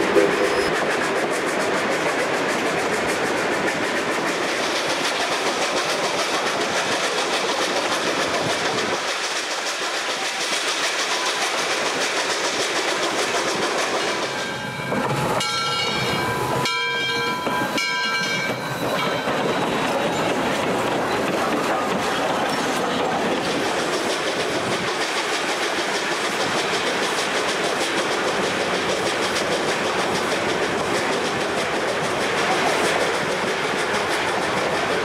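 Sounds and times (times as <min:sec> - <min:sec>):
model train wheels rumbling on track: 0:00.0 - 0:35.0.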